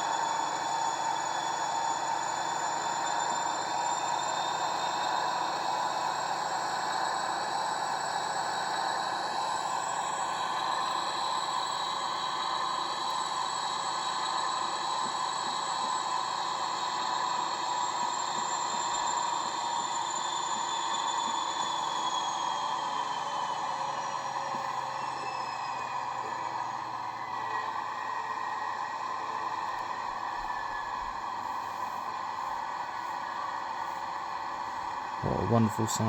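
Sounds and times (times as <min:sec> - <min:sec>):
diesel engine with high whine: 0:00.0 - 0:32.2, 0:32.8 - 0:36.0.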